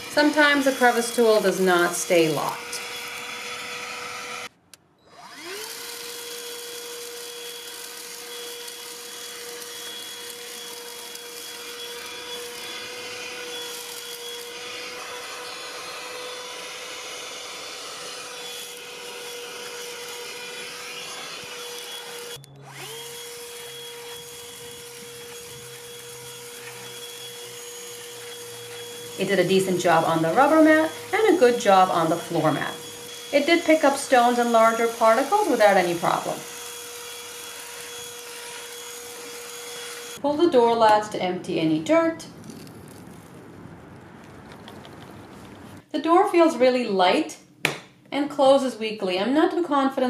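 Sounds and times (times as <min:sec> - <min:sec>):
handheld vacuum whining: 0:00.0 - 0:41.0.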